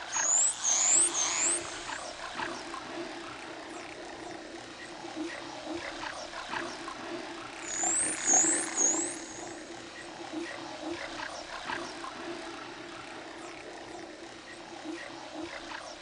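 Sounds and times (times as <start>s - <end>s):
low underwater hum: 0.8s - 16.0s.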